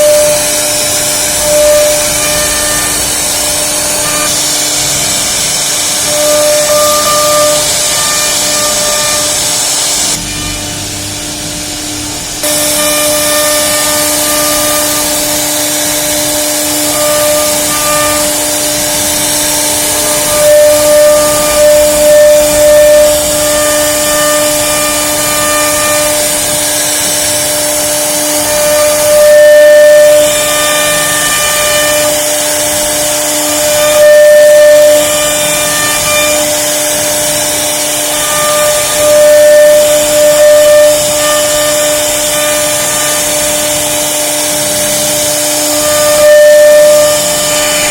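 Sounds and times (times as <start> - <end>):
bit cutting workpiece: 0.0 - 47.9
router spindle whining: 0.0 - 47.9.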